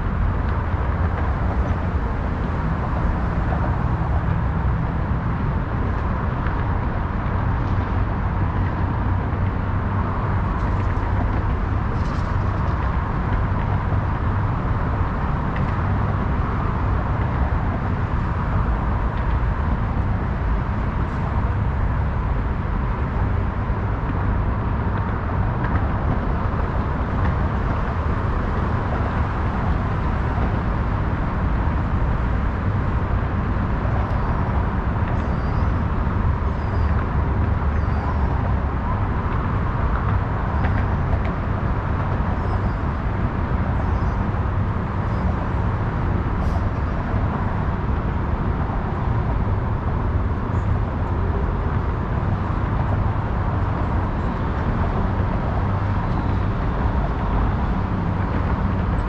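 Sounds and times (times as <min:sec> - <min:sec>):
city traffic noise: 0:00.0 - 0:59.0.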